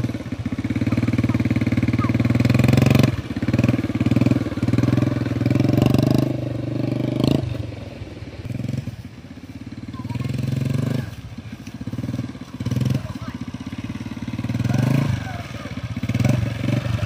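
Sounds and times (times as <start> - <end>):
small motorbike engine revving: 0.0 - 17.0.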